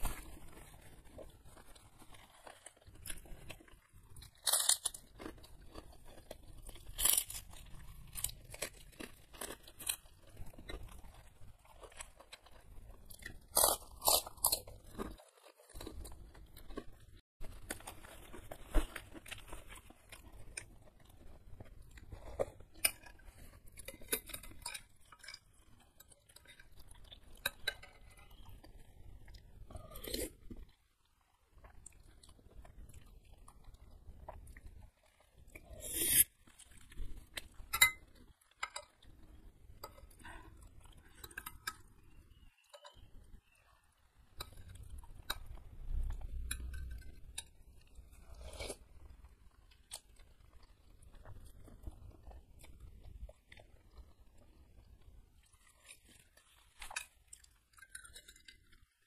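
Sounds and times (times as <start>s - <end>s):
crunching of cracker: 0.0s - 59.0s
wet chewing: 0.0s - 59.0s.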